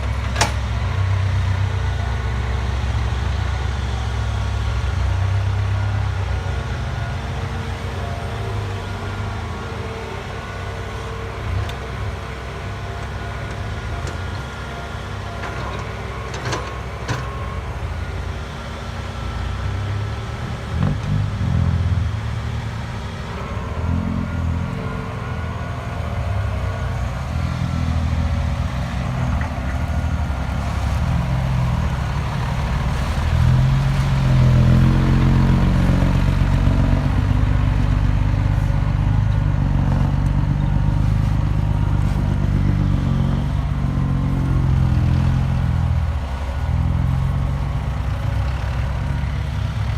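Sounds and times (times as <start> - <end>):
excavator diesel engine: 0.0 - 49.9.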